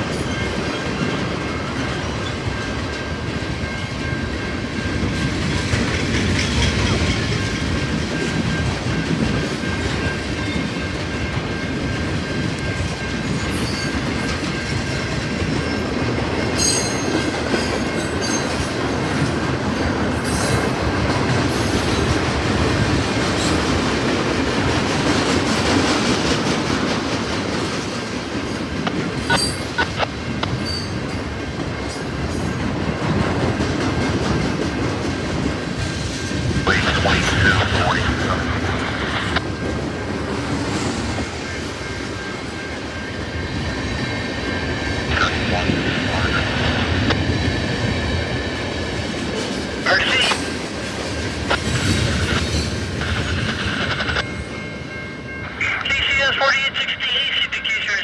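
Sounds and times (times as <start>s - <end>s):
train wheels rumbling on rail: 0.0s - 55.6s.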